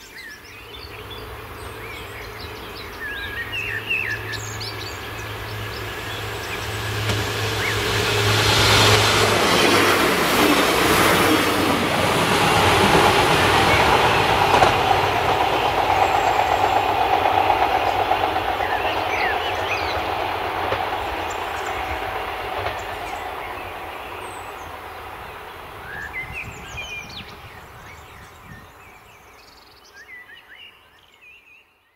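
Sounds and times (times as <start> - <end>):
train engine and wheels: 0.0 - 31.0.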